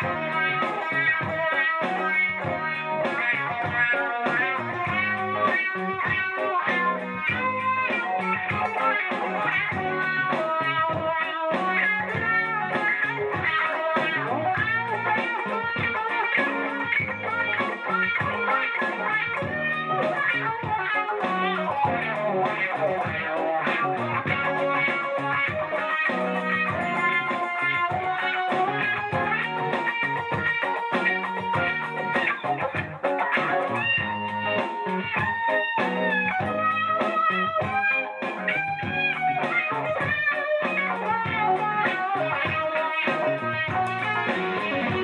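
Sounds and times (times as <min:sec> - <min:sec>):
electric guitar picking single notes: 0:00.0 - 0:45.0
looped guitar rhythm part: 0:00.0 - 0:45.0.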